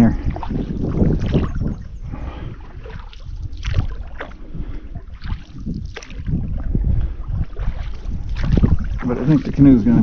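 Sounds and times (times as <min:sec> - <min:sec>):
wind on microphone: 0:00.0 - 0:10.0
paddle strokes splashing: 0:00.2 - 0:10.0.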